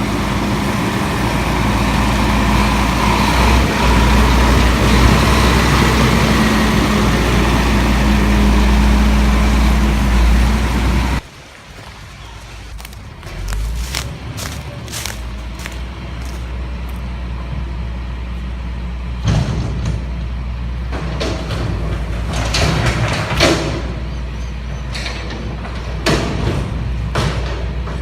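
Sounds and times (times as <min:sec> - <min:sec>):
truck diesel engine rumbling: 0:00.0 - 0:28.0.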